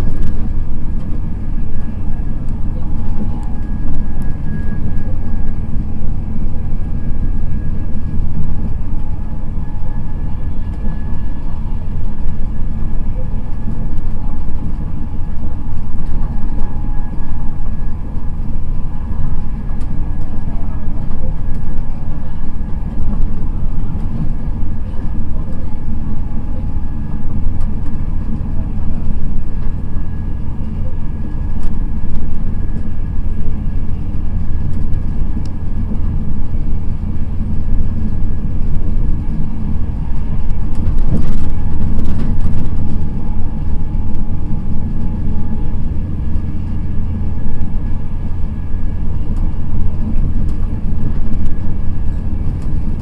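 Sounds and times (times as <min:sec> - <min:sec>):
train running at speed: 0:00.0 - 0:53.0.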